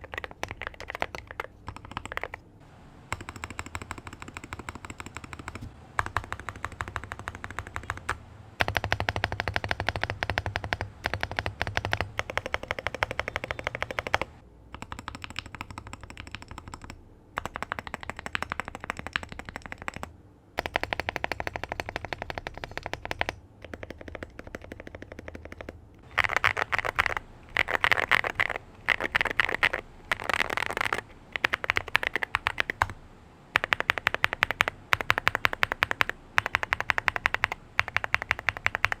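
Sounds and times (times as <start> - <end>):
mechanical keyboard typing: 0.0 - 2.4, 3.1 - 33.0, 33.6 - 39.0.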